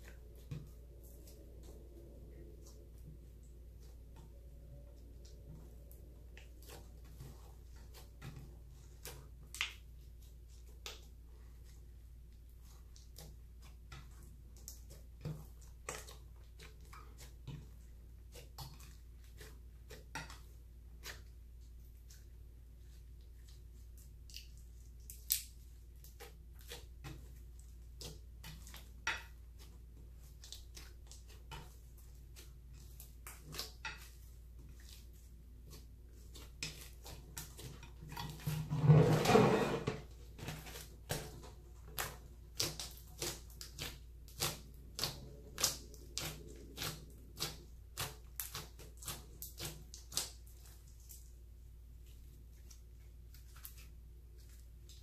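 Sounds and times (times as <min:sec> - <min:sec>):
slime squelching: 0:00.0 - 0:55.0.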